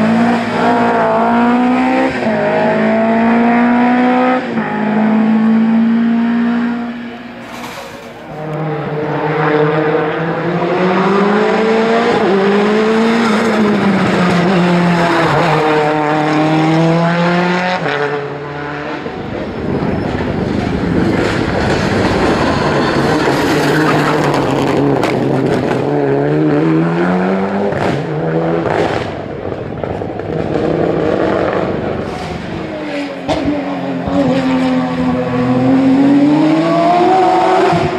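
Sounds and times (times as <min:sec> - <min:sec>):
racing car engine at full throttle: 0:00.0 - 0:37.9.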